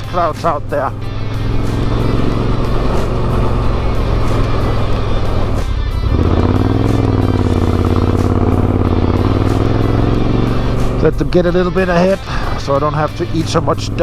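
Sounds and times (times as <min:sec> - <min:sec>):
background music: 0:00.0 - 0:14.0
motorcycle engine running: 0:00.0 - 0:14.0.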